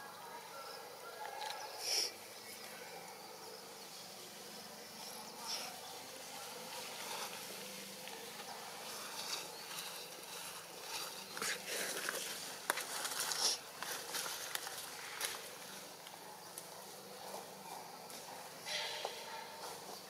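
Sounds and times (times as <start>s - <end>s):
steady jungle hiss: 0.0s - 20.0s.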